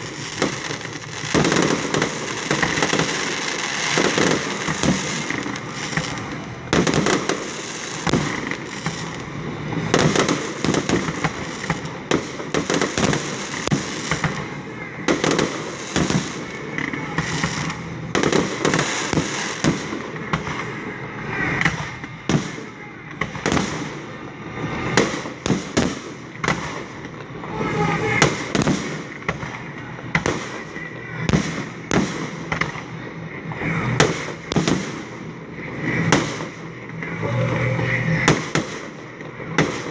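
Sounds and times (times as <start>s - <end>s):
fireworks bursting: 0.0s - 39.9s
fireworks crackling: 0.0s - 39.9s.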